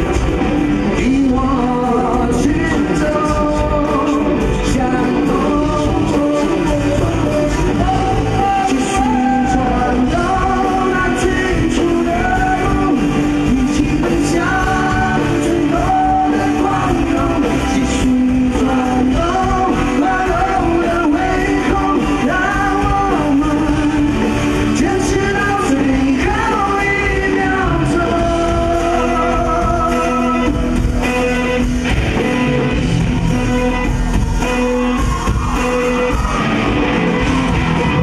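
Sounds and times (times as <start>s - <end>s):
man singing: 0.0s - 31.7s
bass guitar: 0.0s - 38.0s
drums: 0.0s - 38.0s
electric guitars: 0.0s - 38.0s.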